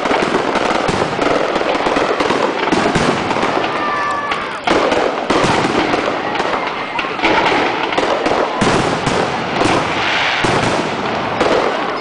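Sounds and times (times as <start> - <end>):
heavy firework booms: 0.0 - 12.0.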